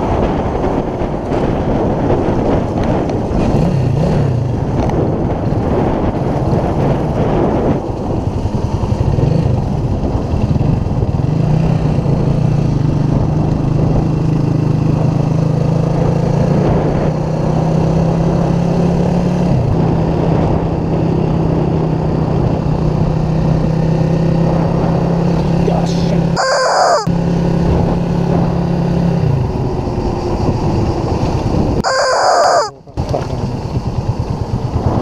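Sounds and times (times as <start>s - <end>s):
motorcycle engine running: 0.0s - 35.0s
wind rushing over microphone: 0.0s - 35.0s.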